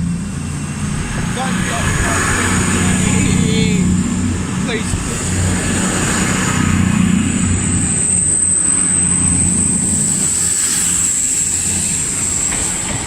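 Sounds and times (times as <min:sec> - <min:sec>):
diesel train engine hum: 0:00.0 - 0:13.0
high-pitched whine: 0:00.0 - 0:13.0.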